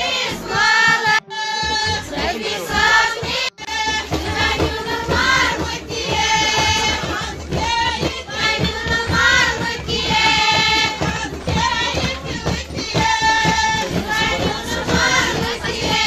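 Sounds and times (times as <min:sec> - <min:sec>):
musical accompaniment: 0:00.0 - 0:16.0.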